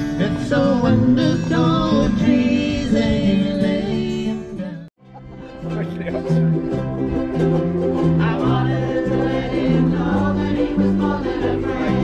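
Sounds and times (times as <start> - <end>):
bass line: 0.0 - 12.0
ukuleles strumming: 0.0 - 12.0.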